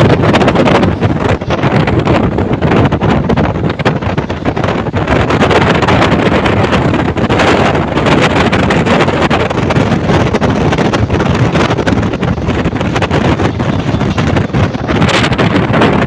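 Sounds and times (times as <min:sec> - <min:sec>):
train rolling noise: 0:00.0 - 0:16.0
wind buffeting microphone: 0:00.0 - 0:16.0.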